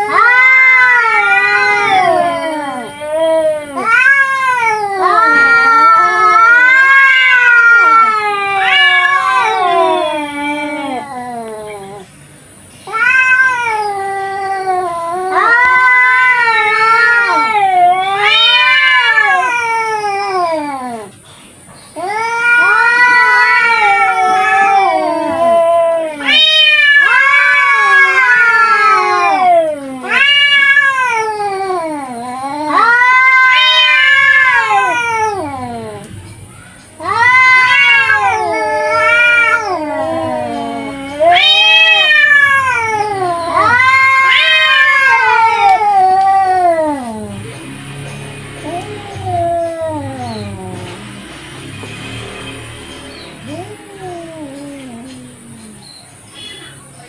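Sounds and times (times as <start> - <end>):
cats yowling: 0.0 - 51.4, 53.0 - 57.0.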